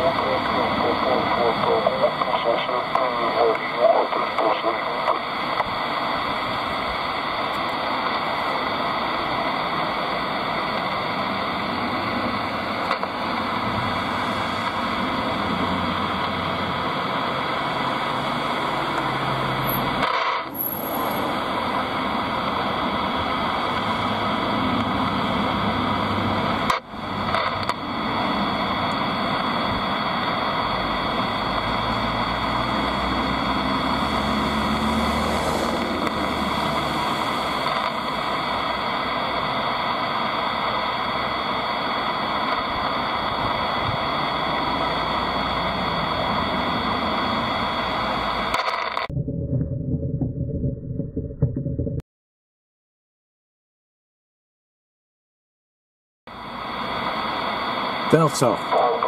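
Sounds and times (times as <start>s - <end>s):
radio static hiss: 0.0s - 49.1s, 56.3s - 59.0s.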